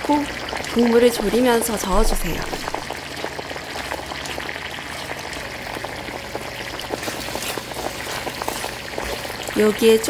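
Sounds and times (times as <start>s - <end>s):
sauce bubbling and popping in a pan: 0.0s - 10.0s.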